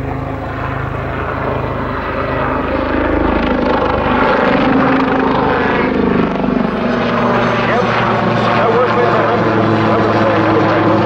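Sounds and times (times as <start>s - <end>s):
helicopter rotor chopping: 0.0s - 11.0s
turbine engine hum: 0.0s - 11.0s.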